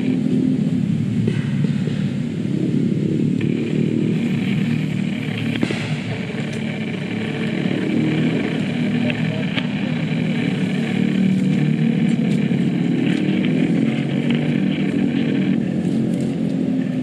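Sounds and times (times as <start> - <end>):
faint higher hum: 0.0 - 17.0
small engine droning: 0.0 - 17.0.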